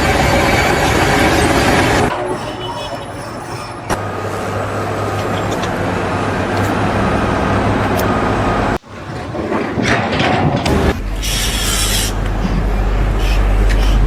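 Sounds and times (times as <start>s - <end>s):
machinery engine hum: 0.0s - 14.0s.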